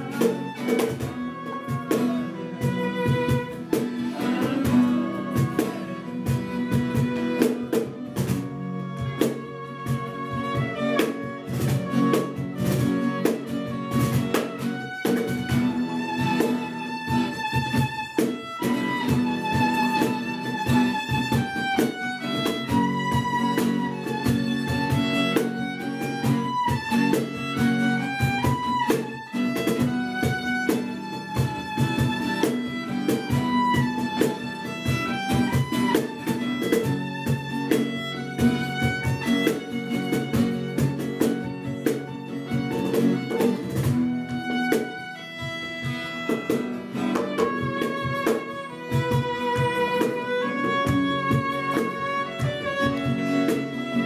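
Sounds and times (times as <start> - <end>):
cajon beat: 0.0 - 54.0
strummed acoustic guitar: 0.0 - 54.0
violin melody: 0.0 - 54.0.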